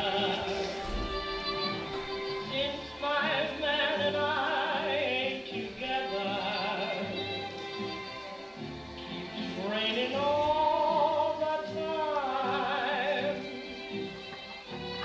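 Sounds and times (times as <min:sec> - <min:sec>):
instrumental accompaniment: 0:00.0 - 0:15.0
person singing with vibrato: 0:00.0 - 0:15.0.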